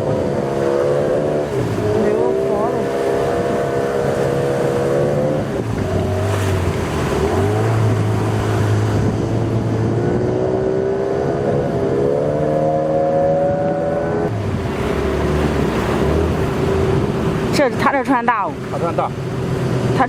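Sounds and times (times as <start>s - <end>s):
boat engine running: 0.0s - 20.0s
water rushing: 0.0s - 20.0s
wind: 0.0s - 20.0s.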